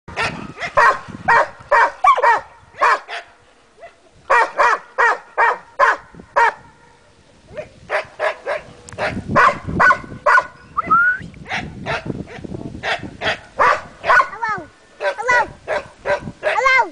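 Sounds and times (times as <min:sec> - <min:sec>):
dog barking: 0:00.1 - 0:06.7, 0:07.6 - 0:10.6, 0:11.4 - 0:14.4, 0:15.0 - 0:16.8.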